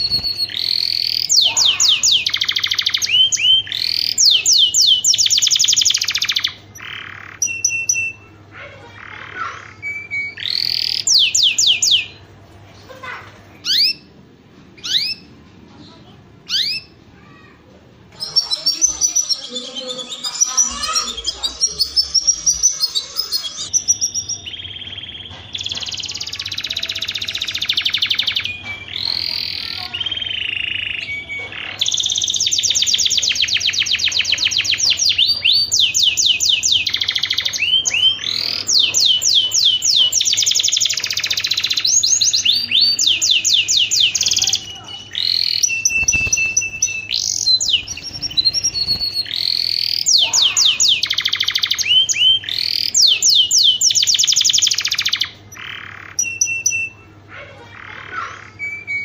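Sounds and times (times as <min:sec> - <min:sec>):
canary singing trills: 0:00.0 - 0:17.5, 0:18.1 - 0:59.0.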